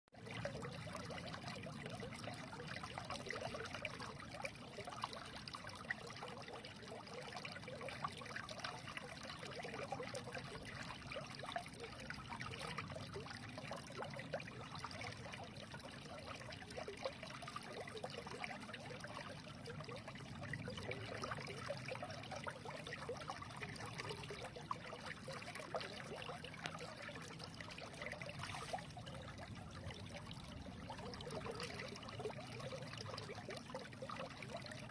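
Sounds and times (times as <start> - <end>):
stream trickling over stones: 0.2 - 34.9.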